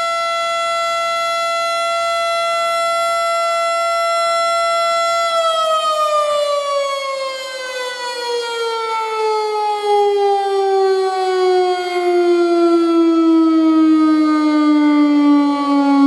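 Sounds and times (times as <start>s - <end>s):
mechanical siren winding down: 0.0s - 16.0s.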